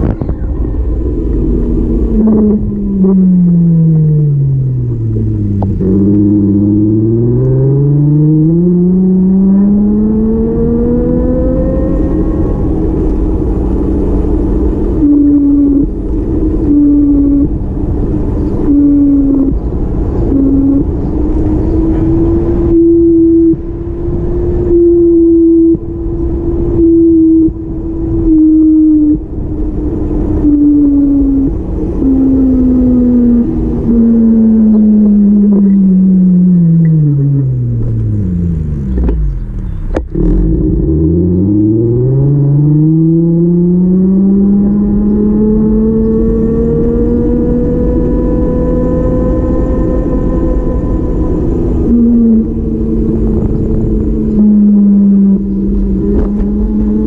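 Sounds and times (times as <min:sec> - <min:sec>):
heavy low rumble: 0:00.0 - 0:57.0
vehicle engine: 0:00.0 - 0:57.0.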